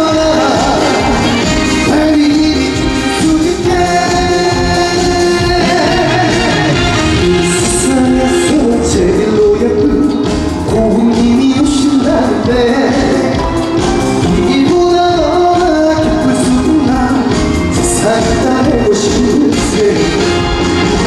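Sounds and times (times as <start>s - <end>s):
amplified band music: 0.0s - 21.0s
person singing: 0.0s - 21.0s.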